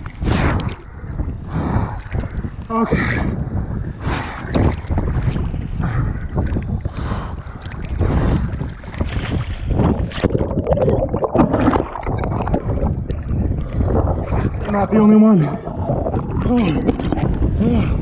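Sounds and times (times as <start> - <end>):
water slapping and splashing: 0.0 - 18.0
wind buffeting microphone: 0.0 - 18.0.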